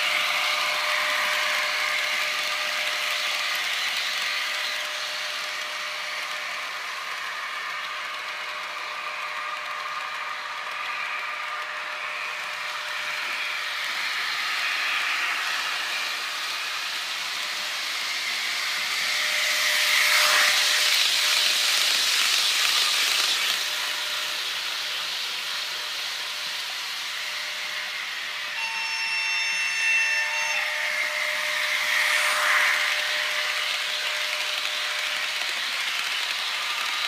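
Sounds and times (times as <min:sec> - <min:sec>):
model train wheels rushing on rail: 0:00.0 - 0:37.0.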